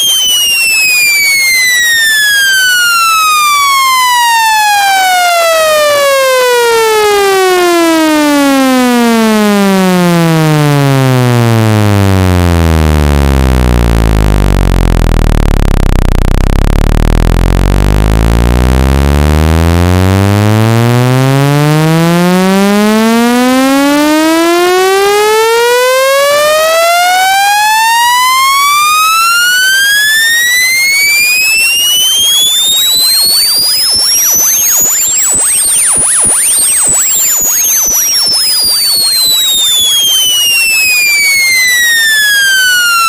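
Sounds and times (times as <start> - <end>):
synthesized buzzy sweeping tone: 0.0 - 43.0.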